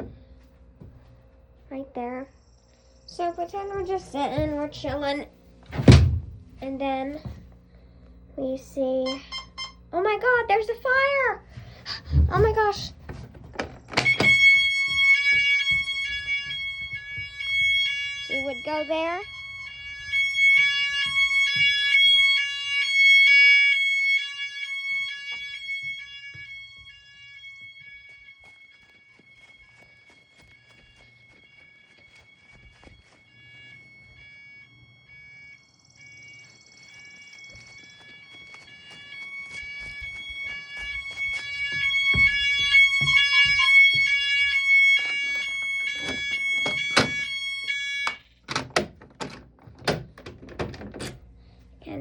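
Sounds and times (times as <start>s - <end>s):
fire alarm tones: 0.0s - 52.0s.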